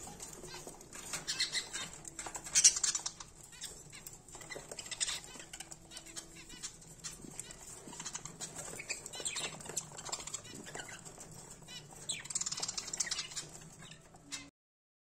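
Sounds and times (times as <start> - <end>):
beaks scratching in seed: 0.0 - 14.5
wings fluttering: 0.0 - 14.5.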